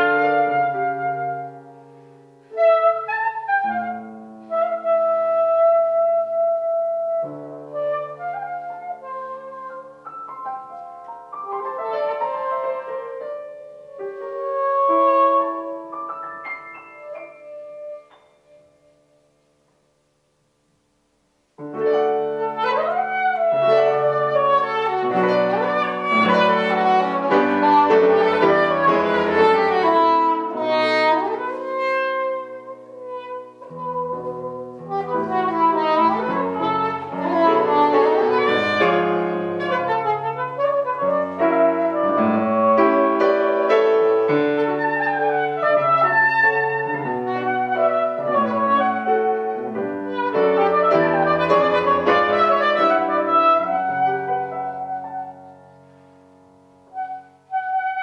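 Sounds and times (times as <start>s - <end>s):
soprano saxophone tango melody: 0.0s - 18.6s, 21.6s - 56.0s, 56.8s - 58.0s
grand piano: 0.0s - 58.0s.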